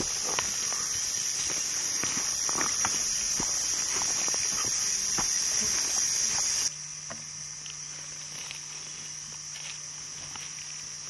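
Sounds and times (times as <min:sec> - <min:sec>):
footsteps crunching on dry leaves: 0:00.0 - 0:06.7, 0:07.6 - 0:11.0
insects buzzing: 0:00.0 - 0:11.0.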